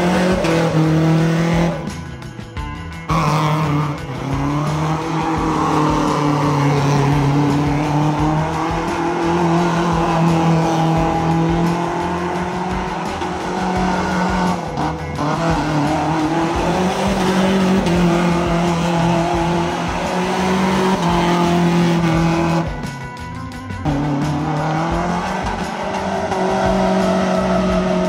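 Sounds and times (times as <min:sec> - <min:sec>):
engine revving high: 0:00.0 - 0:28.0
tires spinning on pavement: 0:00.0 - 0:28.0.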